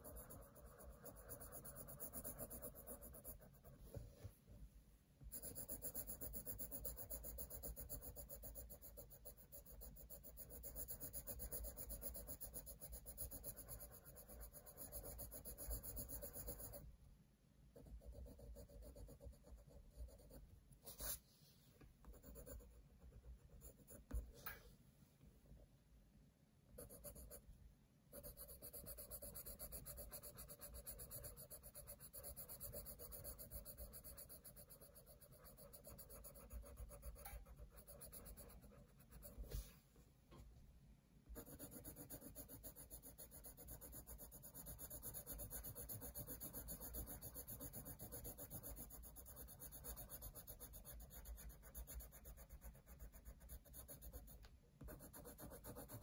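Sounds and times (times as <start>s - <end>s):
pencil scratching on paper: 0.0s - 4.3s, 5.3s - 16.9s, 17.7s - 21.3s, 22.0s - 24.7s, 26.8s - 27.4s, 28.1s - 39.8s, 41.3s - 56.0s.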